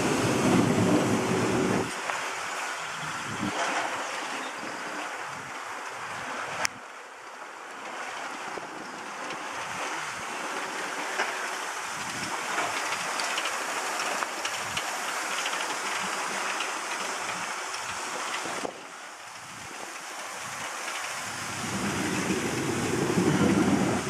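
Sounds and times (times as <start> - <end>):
water pump rushing noise: 0.0 - 24.0.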